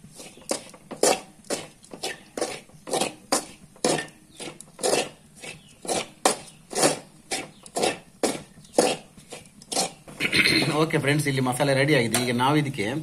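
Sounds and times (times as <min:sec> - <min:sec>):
metal spatula scraping pan: 0:00.0 - 0:11.0.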